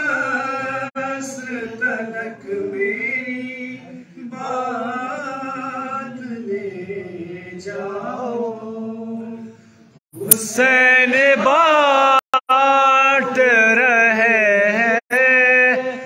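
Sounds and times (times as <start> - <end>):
man chanting devotional verse: 0.0 - 9.1, 10.2 - 16.0.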